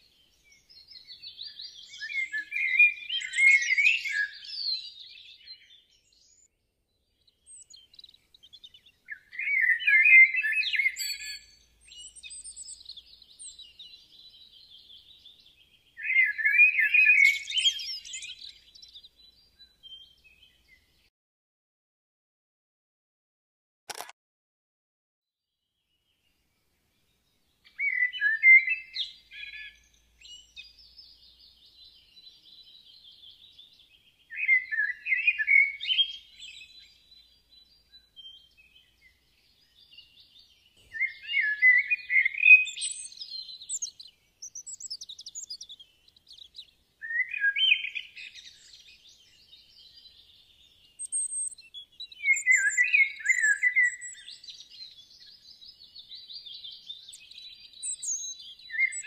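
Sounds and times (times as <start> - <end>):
soft bird chirps and twitters: 0.0 - 21.1, 25.5 - 59.0
songbird warbling song: 0.0 - 21.1, 25.6 - 59.0.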